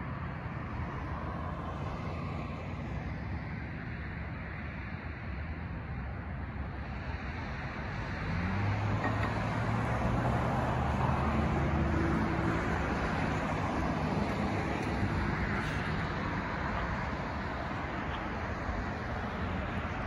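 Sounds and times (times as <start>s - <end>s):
cars driving by: 0.0s - 20.0s.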